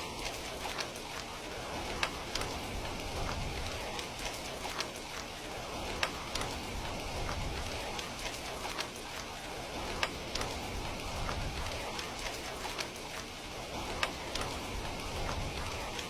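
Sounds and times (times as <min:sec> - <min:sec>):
crackling wood fire: 0:00.0 - 0:16.0
steady rain falling: 0:00.0 - 0:16.0.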